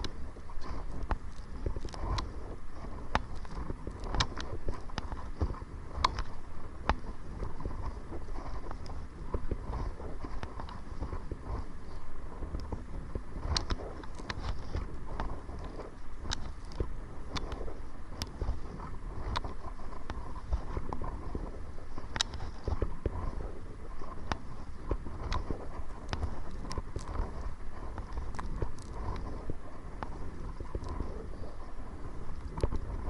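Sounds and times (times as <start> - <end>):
wind on microphone: 0.0 - 33.0.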